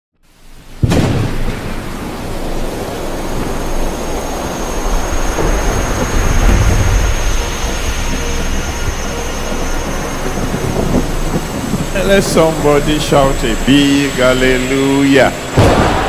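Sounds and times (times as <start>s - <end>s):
steady hissing wash: 0.2s - 16.0s
thin high whine: 0.2s - 16.0s
thunder-like rumble: 0.4s - 16.0s.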